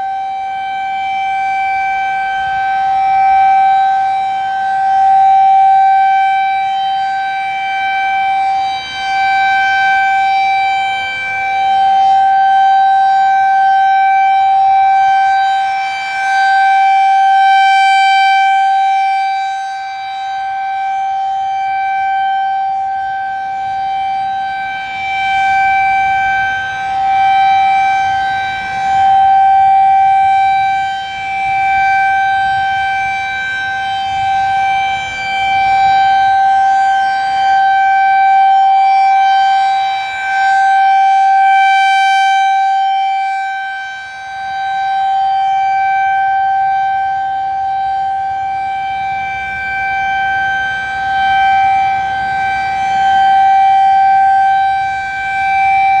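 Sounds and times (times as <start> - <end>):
high-pitched warning siren: 0.0 - 56.0.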